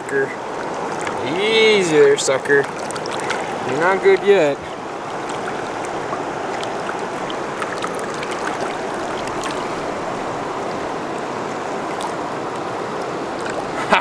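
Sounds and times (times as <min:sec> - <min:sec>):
light ticks of water: 0:00.0 - 0:01.3, 0:02.0 - 0:14.0
river current rushing: 0:00.0 - 0:14.0.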